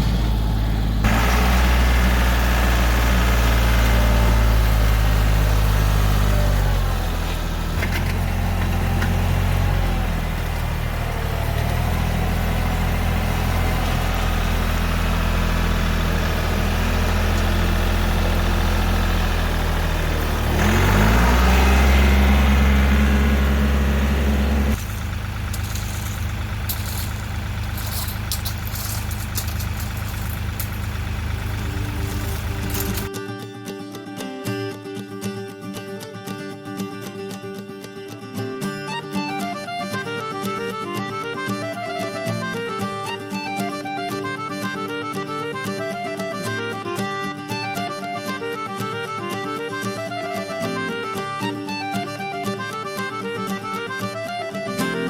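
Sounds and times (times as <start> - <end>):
tractor diesel engine running: 0.0 - 33.1, 39.6 - 55.0.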